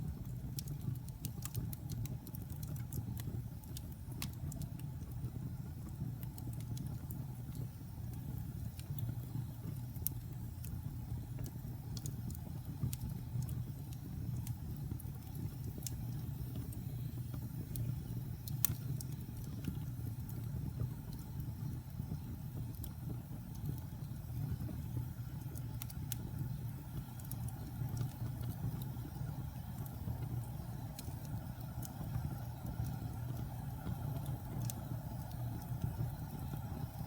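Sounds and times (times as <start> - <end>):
fire crackling and popping: 0.0 - 37.0
low rumble of fire: 0.0 - 37.0.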